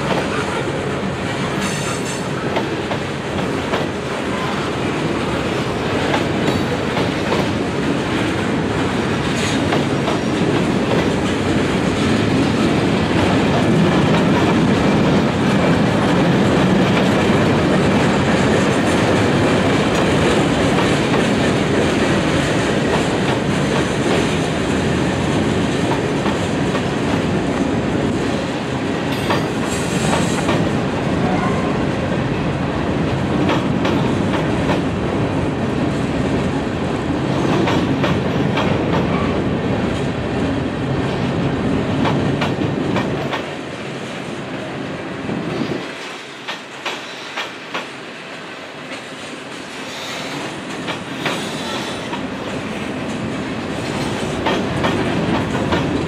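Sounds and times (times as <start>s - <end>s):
freight train cars rolling: 0.0s - 56.0s.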